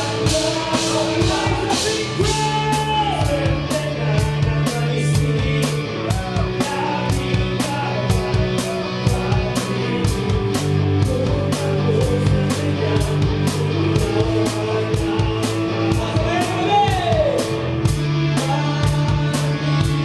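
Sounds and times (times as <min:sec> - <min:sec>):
drums and cymbals beat: 0:00.0 - 0:20.0
live rock band playing: 0:00.0 - 0:20.0.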